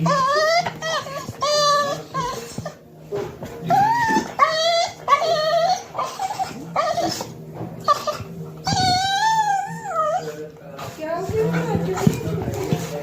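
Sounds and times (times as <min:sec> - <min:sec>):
dog whining: 0:00.0 - 0:13.0.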